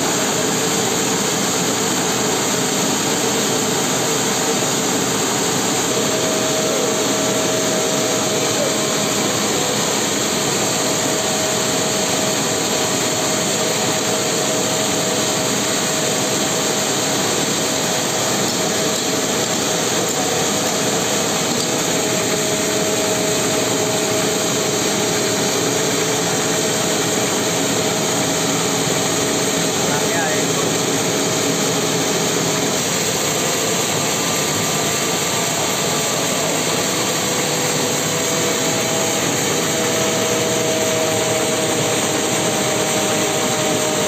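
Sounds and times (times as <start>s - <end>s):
sawmill machinery din: 0.0s - 44.0s
steady machine whine: 0.0s - 44.0s.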